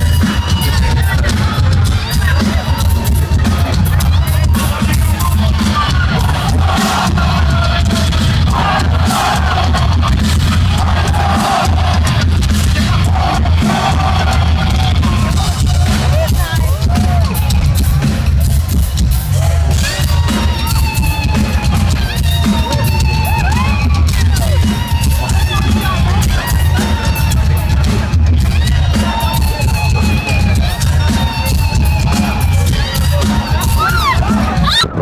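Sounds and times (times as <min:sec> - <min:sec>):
crowd noise: 0:00.0 - 0:35.0
heavy drums: 0:00.0 - 0:35.0
live rock band playing: 0:00.0 - 0:35.0.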